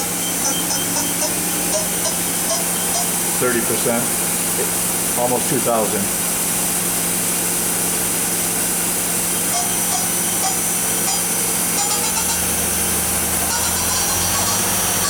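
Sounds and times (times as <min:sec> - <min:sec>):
lathe spindle whirring: 0:00.0 - 0:05.3, 0:06.2 - 0:15.0.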